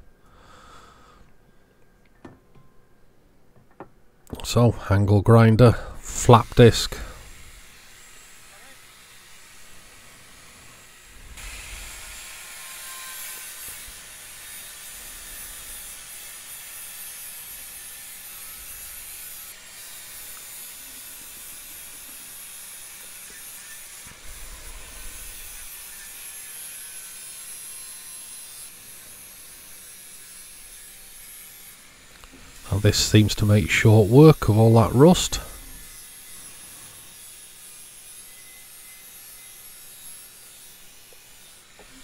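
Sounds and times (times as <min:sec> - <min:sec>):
angle grinder grinding metal: 0:05.3 - 0:42.0.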